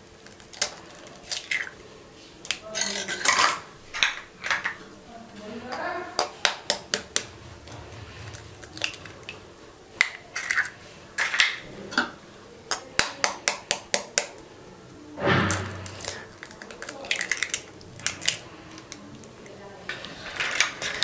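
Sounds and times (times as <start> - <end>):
eggs cracking against a bowl: 0.0 - 14.8, 15.5 - 21.0.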